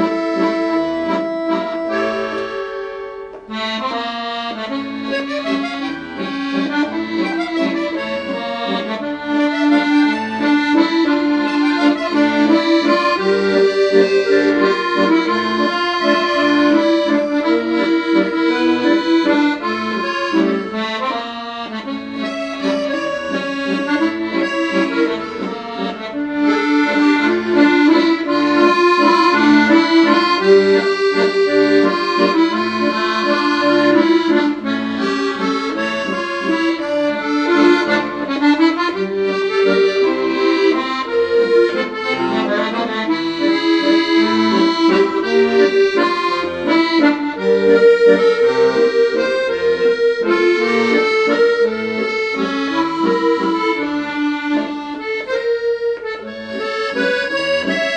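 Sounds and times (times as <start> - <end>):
accordion music: 0.0 - 57.9.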